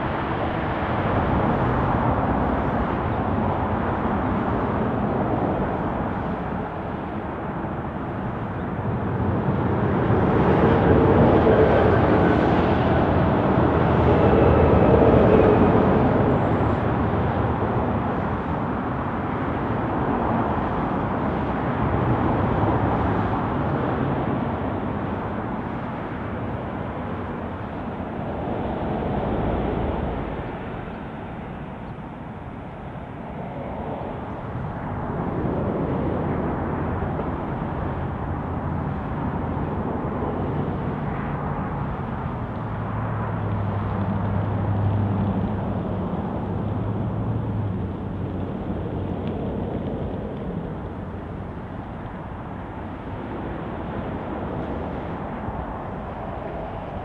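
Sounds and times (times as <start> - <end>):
jet engines at taxi power: 0.0 - 57.0.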